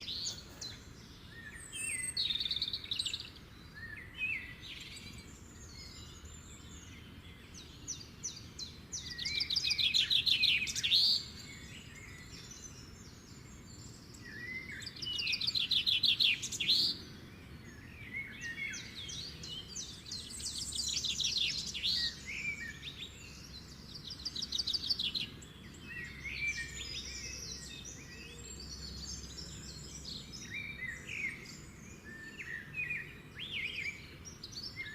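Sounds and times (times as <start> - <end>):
birds singing: 0.0 - 34.9
faint background noise: 0.0 - 34.9.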